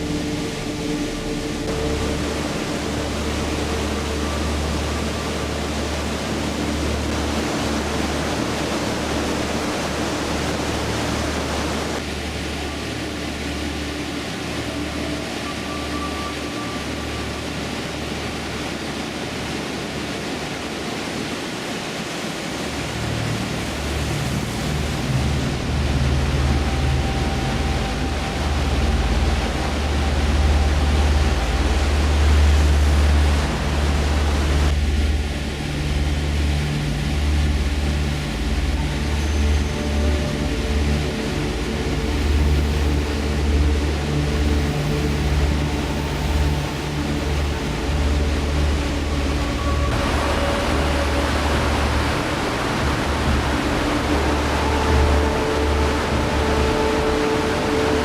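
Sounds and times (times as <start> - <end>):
waterfall rushing water: 0.0 - 58.0.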